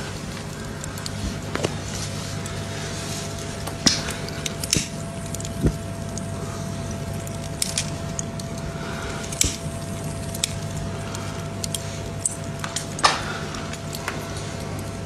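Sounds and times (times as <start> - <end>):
sharp crackles and pops: 0.0 - 15.0
steady low hum: 0.0 - 15.0.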